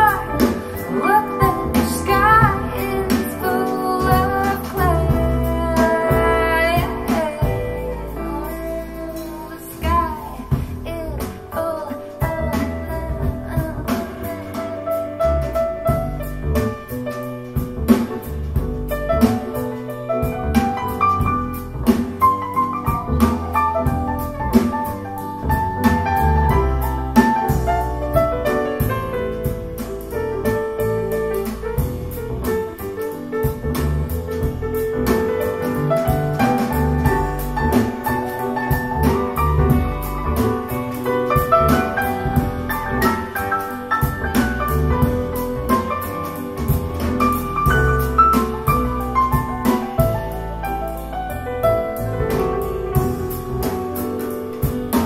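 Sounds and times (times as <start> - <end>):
jazz piano with bass and drums: 0.0 - 55.0.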